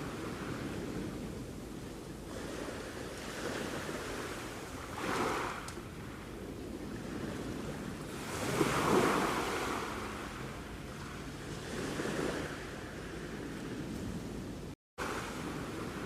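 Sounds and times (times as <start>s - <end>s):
sea waves washing ashore: 0.0s - 16.0s
wind on microphone: 0.0s - 16.0s.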